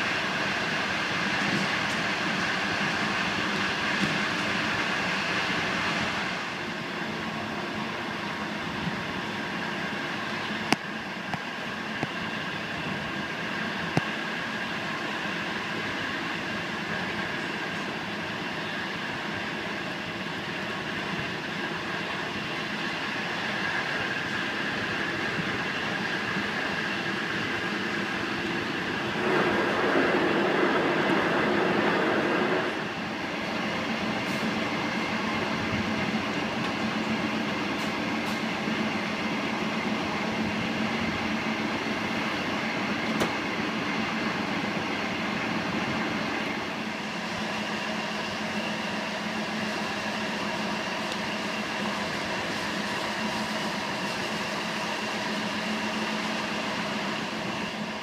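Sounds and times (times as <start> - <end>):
train running noise: 0.0 - 58.0.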